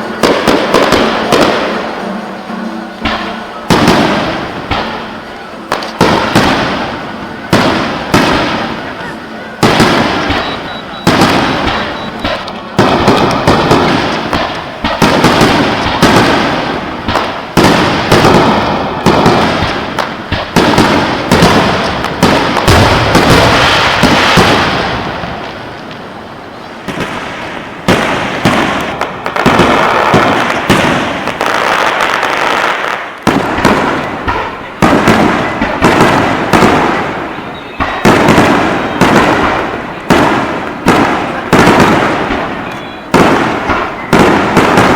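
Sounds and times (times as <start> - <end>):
fireworks booming: 0.0 - 44.9.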